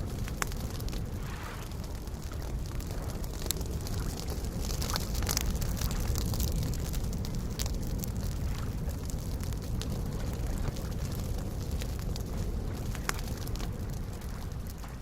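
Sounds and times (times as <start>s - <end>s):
campfire crackling and popping: 0.0s - 15.0s
soft lake waves: 0.0s - 15.0s.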